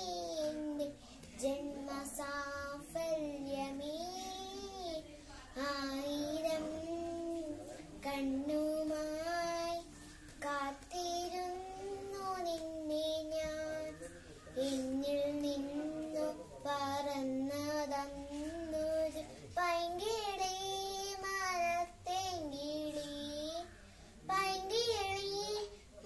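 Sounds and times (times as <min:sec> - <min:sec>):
girl singing unaccompanied: 0:00.0 - 0:26.0.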